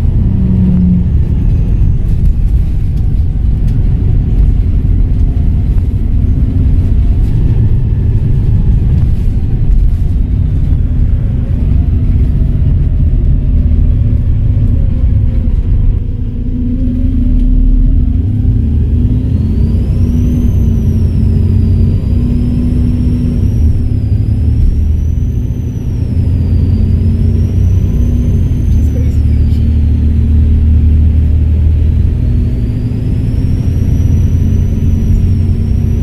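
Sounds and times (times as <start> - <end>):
faint whining tones: 0.0 - 30.3
bus engine rumbling: 0.0 - 36.0.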